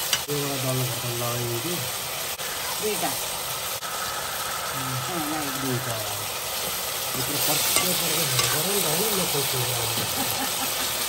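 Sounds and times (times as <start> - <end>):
chicken frying and sizzling: 0.0 - 11.0.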